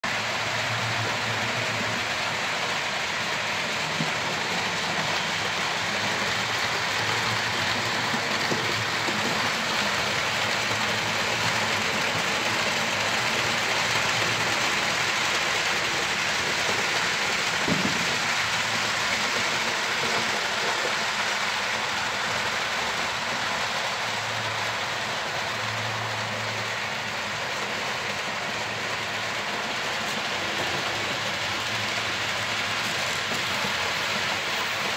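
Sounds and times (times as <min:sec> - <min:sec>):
model train wheels on rails: 0:00.0 - 0:34.9
small locomotive motors: 0:00.0 - 0:34.9.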